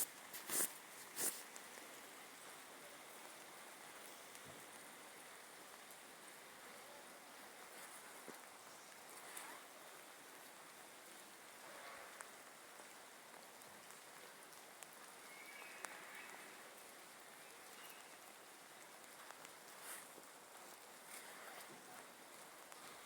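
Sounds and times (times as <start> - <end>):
rain falling: 0.0 - 23.0
ticks of rain drops: 0.0 - 23.0.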